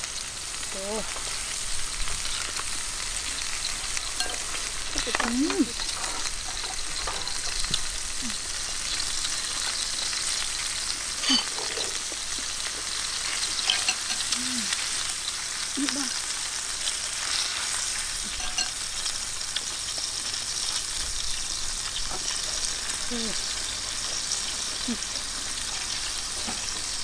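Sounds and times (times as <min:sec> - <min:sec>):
meat and onion sizzling in pan: 0:00.0 - 0:27.0.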